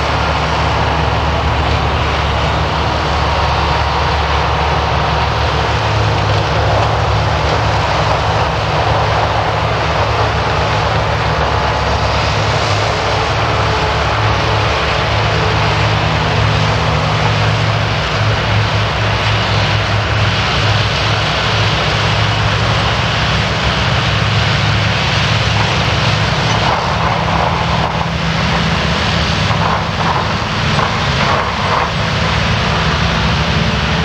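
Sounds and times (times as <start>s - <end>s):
low engine drone: 0.0s - 34.0s
rushing noise of grass chopping: 5.8s - 34.0s.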